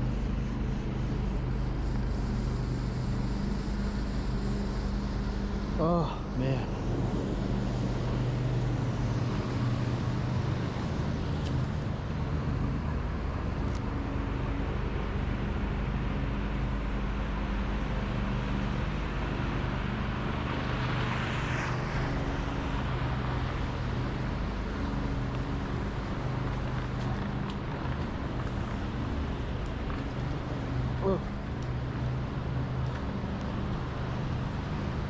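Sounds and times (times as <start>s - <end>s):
vehicle engine humming: 0.0s - 35.0s
vehicle passing with hiss: 0.0s - 35.0s.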